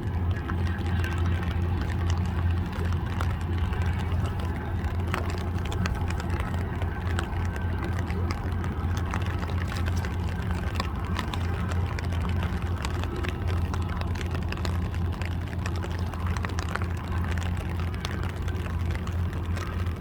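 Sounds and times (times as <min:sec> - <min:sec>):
faint clicks: 0:00.0 - 0:20.0
towboat diesel engine drone: 0:00.0 - 0:20.0.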